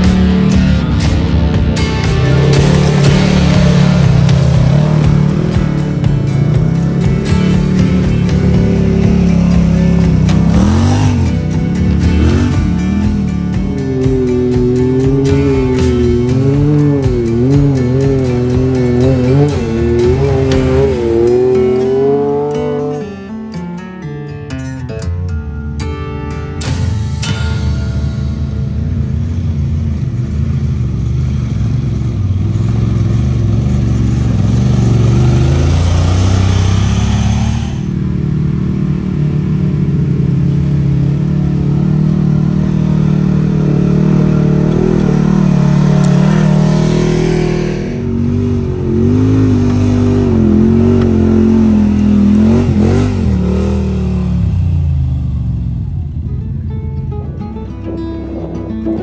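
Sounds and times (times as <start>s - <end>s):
utility vehicle engines revving: 0.0s - 59.0s.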